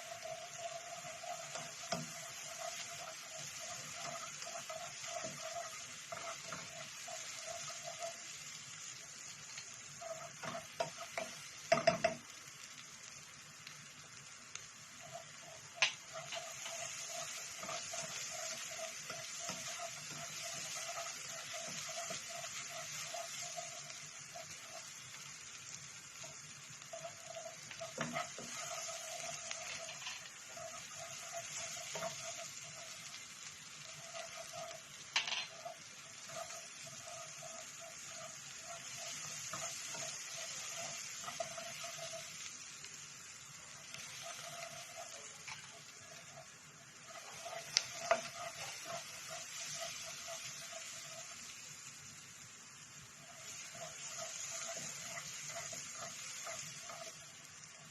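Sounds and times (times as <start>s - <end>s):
food sizzling in frying pan: 0.0s - 57.9s.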